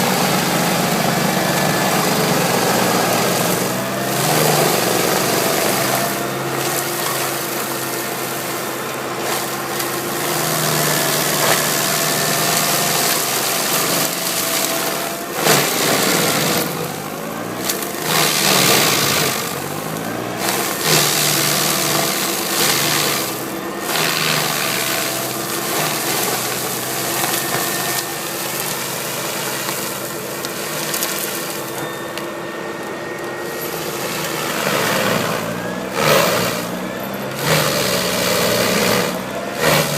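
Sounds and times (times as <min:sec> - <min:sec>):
mulcher grinding and crushing: 0:00.0 - 0:39.9
tractor engine under load: 0:00.0 - 0:39.9.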